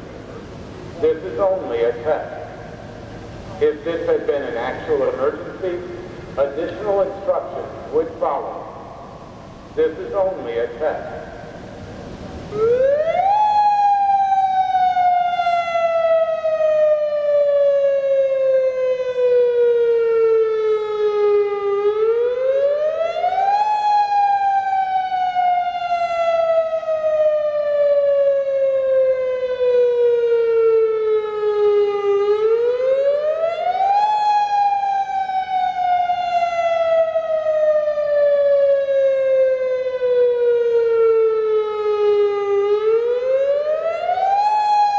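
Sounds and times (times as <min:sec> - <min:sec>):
electronic warning siren sweeping: 0:03.7 - 0:44.9.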